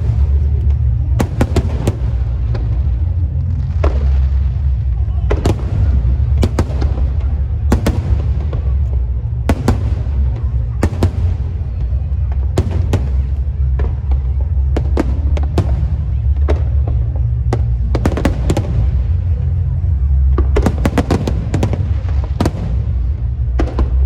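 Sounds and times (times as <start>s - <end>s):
fireworks bangs: 0.0s - 24.0s
low rumble: 0.0s - 24.0s.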